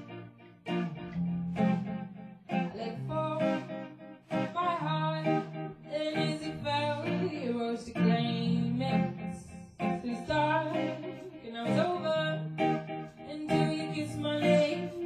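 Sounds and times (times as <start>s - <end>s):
guitar chords: 0.0s - 15.0s
person singing: 2.5s - 15.0s.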